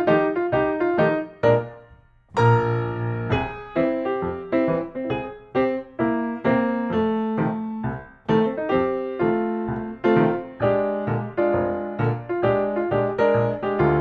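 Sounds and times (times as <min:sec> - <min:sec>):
light piano tune: 0:00.0 - 0:14.0.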